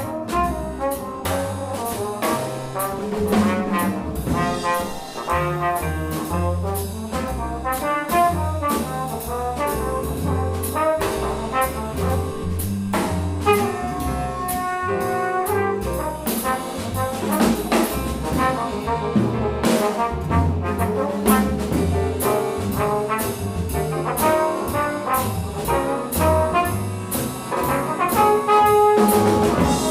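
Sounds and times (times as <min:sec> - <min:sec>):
bass trumpet melody: 0:00.0 - 0:29.9
drums with cymbals: 0:00.0 - 0:29.9
walking upright bass: 0:00.0 - 0:29.9.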